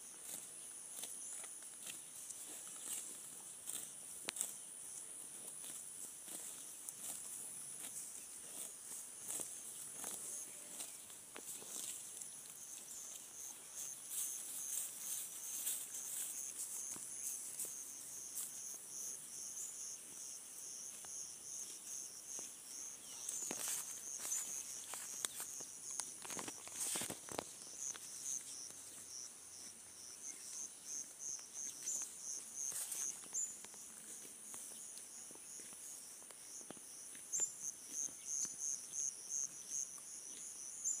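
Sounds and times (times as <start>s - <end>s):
constant hiss: 0.0s - 41.0s
insects chirping: 0.0s - 41.0s.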